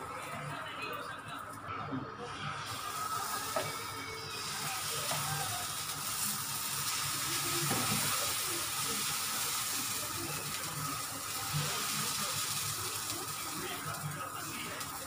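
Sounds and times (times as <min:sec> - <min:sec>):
batter sizzling on hot pan: 0:02.3 - 0:15.0.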